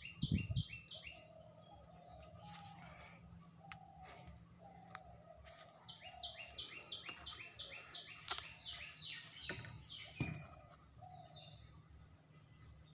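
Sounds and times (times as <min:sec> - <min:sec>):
bird chirping: 0:00.0 - 0:12.9.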